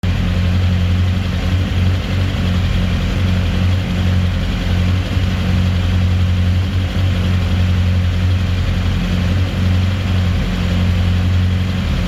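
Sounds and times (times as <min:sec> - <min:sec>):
motorcycle engine idling roughly: 0:00.0 - 0:12.0.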